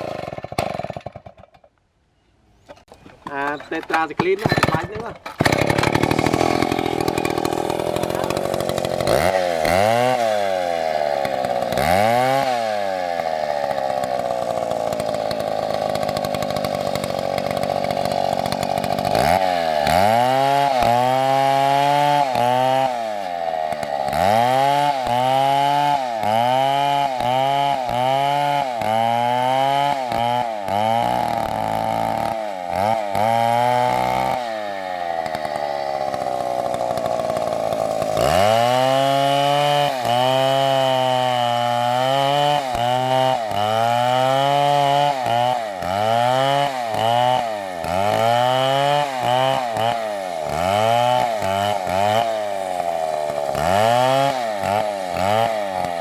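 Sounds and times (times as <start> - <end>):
chainsaw cutting tree: 0.0 - 1.7, 3.2 - 56.0.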